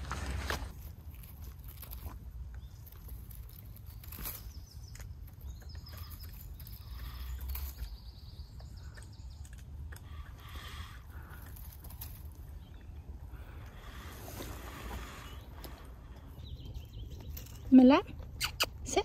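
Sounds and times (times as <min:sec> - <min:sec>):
shrubs rustling: 0:00.0 - 0:19.0.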